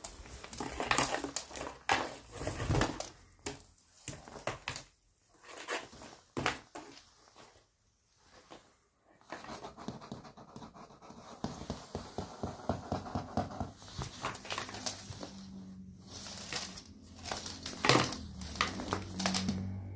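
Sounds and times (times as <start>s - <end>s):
cardboard and ribbon rustling: 0.0s - 9.7s, 11.3s - 19.9s.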